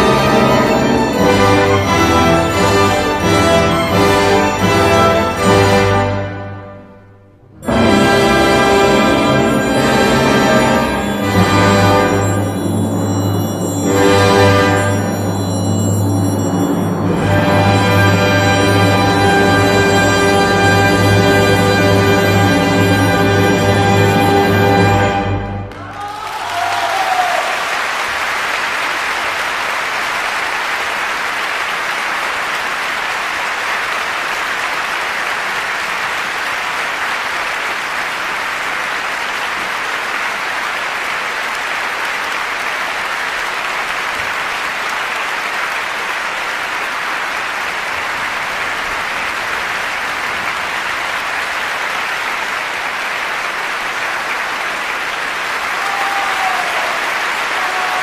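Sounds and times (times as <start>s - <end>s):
audience applauding: 7.6s - 58.0s.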